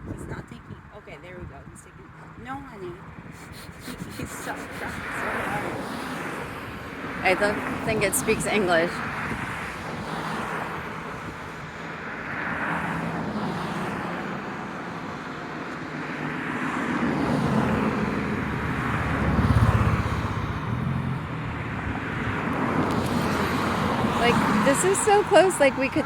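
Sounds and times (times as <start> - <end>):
road traffic noise: 0.0 - 26.0
vehicle engine hum passing: 0.0 - 26.0.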